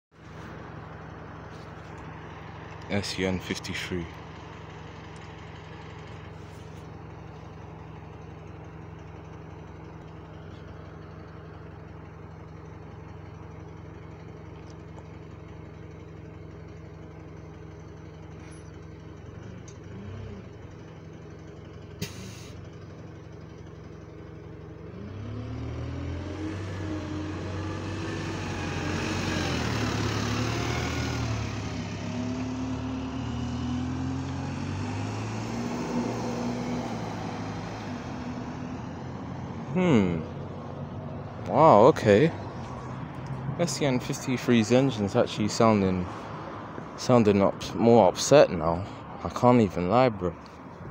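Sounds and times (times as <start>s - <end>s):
bus engine idling and accelerating: 0.0s - 50.9s.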